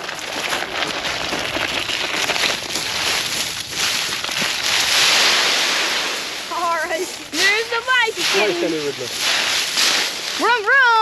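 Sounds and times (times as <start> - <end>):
dry leaves rustling and crunching: 0.0 - 11.0.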